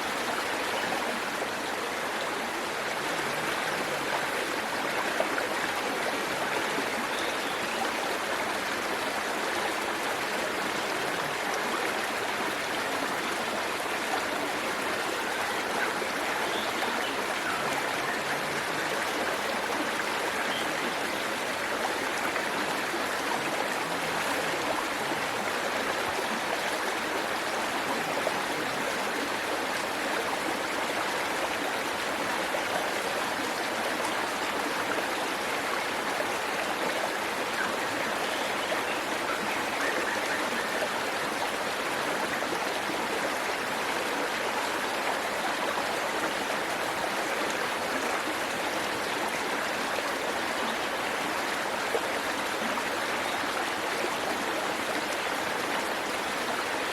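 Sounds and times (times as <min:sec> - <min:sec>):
waterfall splashing over rocks: 0:00.0 - 0:56.9.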